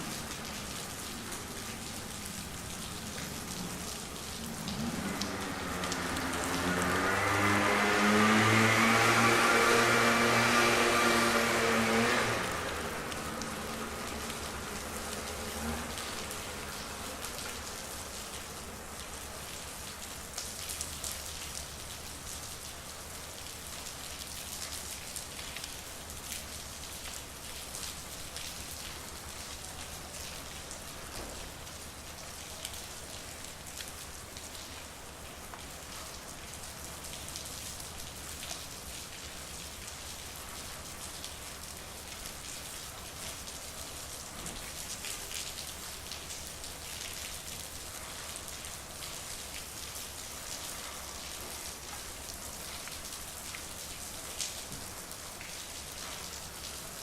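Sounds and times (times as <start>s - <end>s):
raindrops ticking close by: 0.0s - 7.6s, 12.2s - 57.0s
rain falling: 0.0s - 57.0s.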